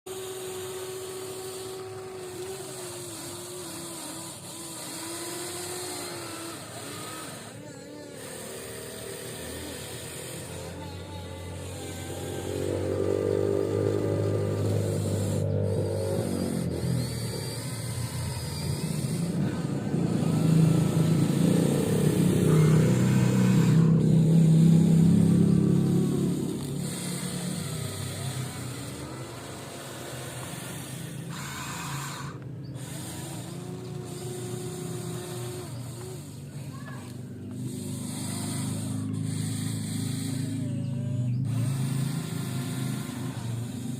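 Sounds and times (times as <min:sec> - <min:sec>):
toy electric motors whining: 0:00.0 - 0:43.9.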